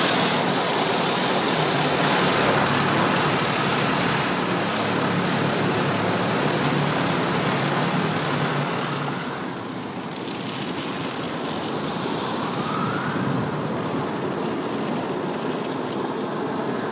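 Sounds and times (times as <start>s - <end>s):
car wash machinery rushing: 0.0s - 16.9s
faint rising whine: 0.0s - 16.9s.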